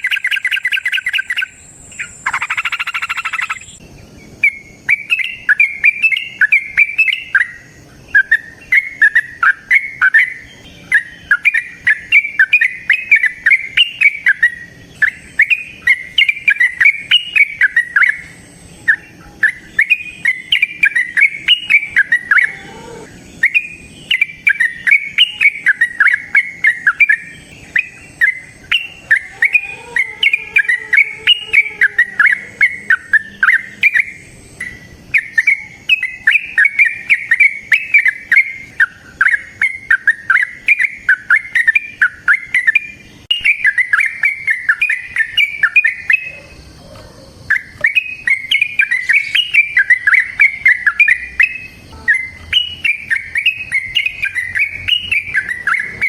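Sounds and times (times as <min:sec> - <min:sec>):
bulbul warbling song: 0:00.0 - 0:56.0.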